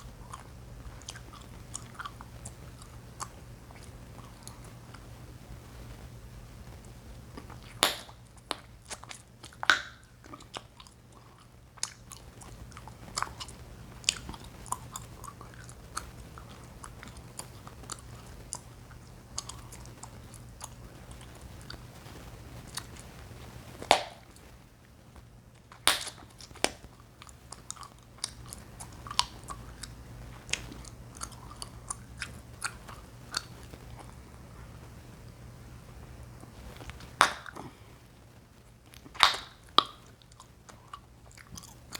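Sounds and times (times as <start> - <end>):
gum chewing and popping: 0.0 - 5.2, 6.6 - 24.5, 25.2 - 35.4, 36.2 - 37.9, 38.6 - 41.9.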